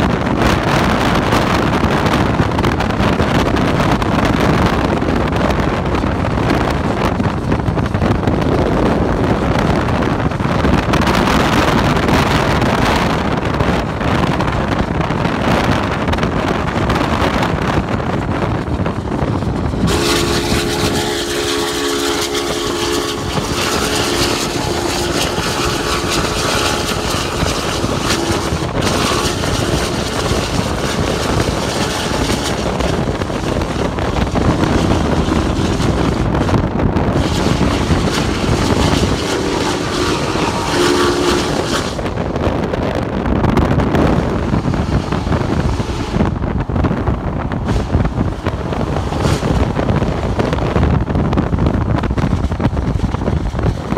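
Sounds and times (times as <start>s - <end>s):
car wind and road noise: 0.0s - 53.9s.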